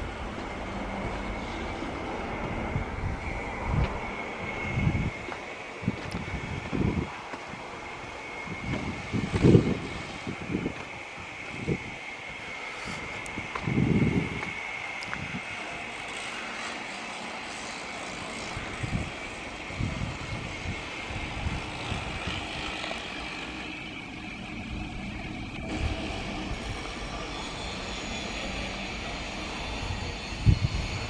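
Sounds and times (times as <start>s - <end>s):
distant engine drone: 0.0s - 31.0s.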